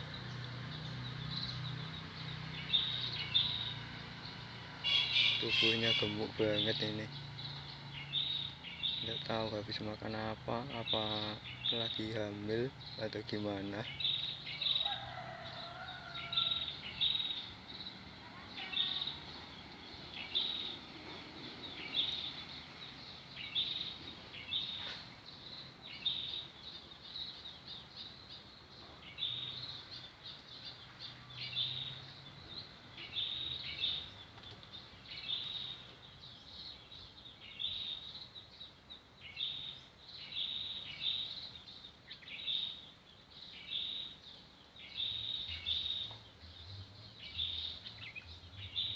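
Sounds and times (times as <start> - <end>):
bird chirping: 0.0 - 48.9
faint outdoor background hiss: 0.0 - 48.9.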